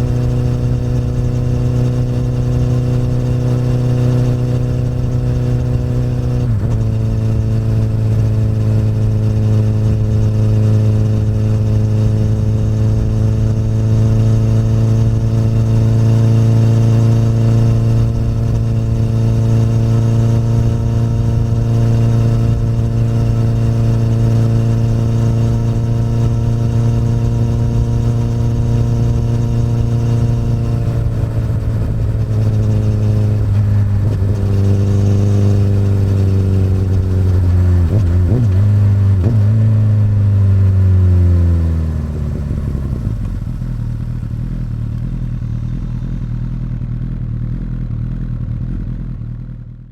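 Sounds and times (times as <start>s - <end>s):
motorcycle engine slowing to idle: 0.0s - 49.9s.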